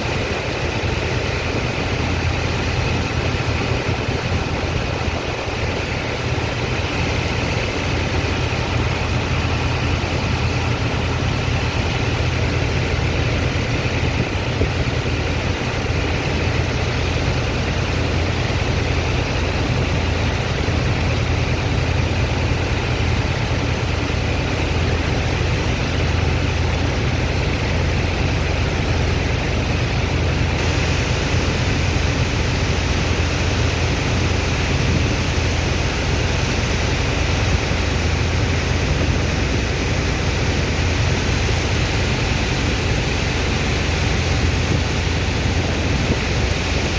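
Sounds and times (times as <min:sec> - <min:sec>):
diesel engine drone: 0:00.0 - 0:46.9
pump rushing hiss: 0:00.0 - 0:46.9.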